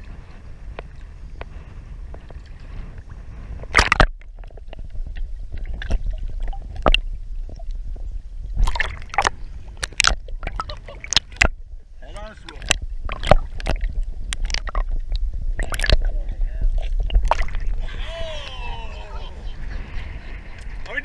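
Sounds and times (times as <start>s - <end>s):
water splashing and sloshing: 0.0s - 21.0s
wind rumble on microphone: 0.0s - 21.0s.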